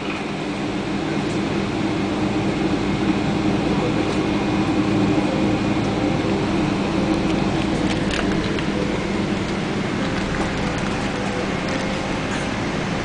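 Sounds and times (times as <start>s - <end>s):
air conditioning hum: 0.0s - 13.0s
jet engines at idle: 0.0s - 13.0s.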